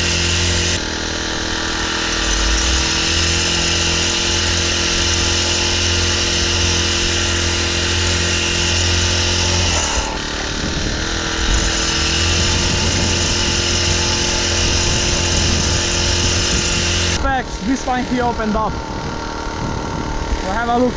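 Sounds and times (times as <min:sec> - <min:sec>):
small petrol engine running: 0:00.0 - 0:20.9.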